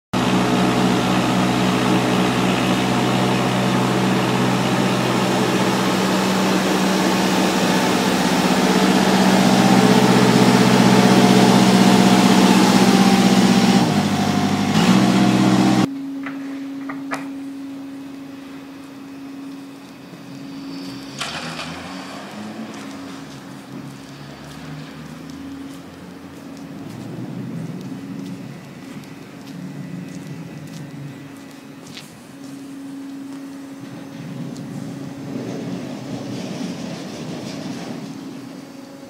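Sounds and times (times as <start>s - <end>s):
truck diesel engine running: 0.1s - 15.9s, 17.7s - 39.0s.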